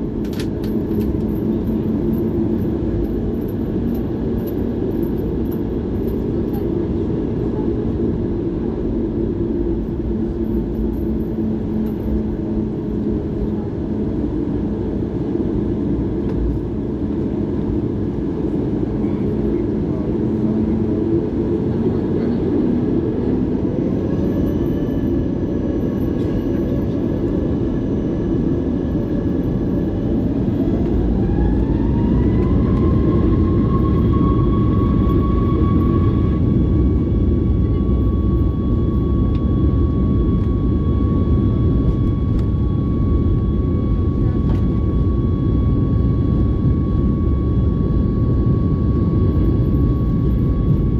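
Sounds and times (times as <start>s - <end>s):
jet engine whine rising: 0.0s - 50.9s
jet engines rumbling in cabin: 0.0s - 50.9s.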